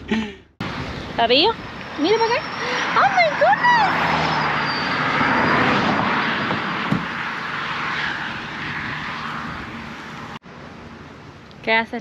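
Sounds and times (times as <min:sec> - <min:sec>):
passing motor vehicle engine: 0:00.6 - 0:11.4.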